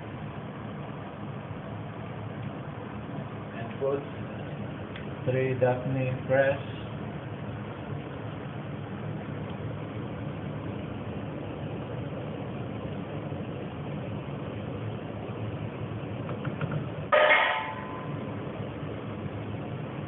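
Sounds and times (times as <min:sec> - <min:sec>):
stovetop low rumble: 0:00.0 - 0:20.0.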